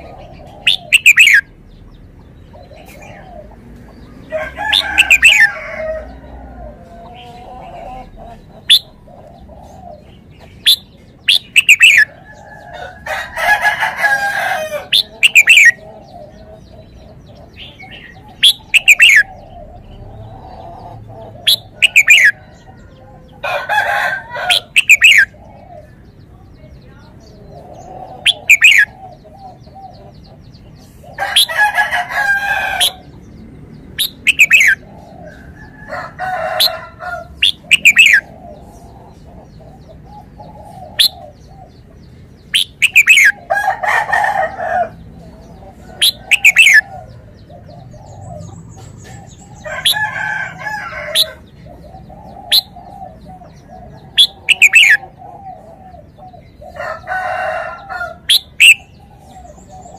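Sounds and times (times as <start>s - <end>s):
chatter of other birds: 0.0s - 59.9s.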